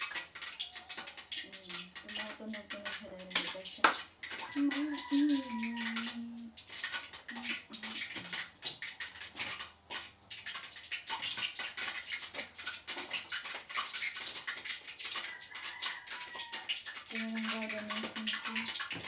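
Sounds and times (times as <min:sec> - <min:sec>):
cooking oil crackling in a pan: 0:00.0 - 0:19.0.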